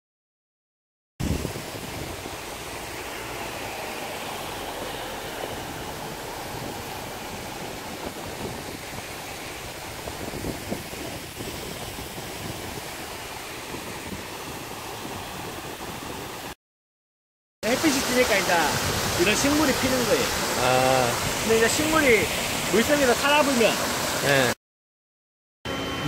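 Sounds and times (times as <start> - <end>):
paddlewheel aerators churning water: 1.3 - 16.5, 17.6 - 24.6.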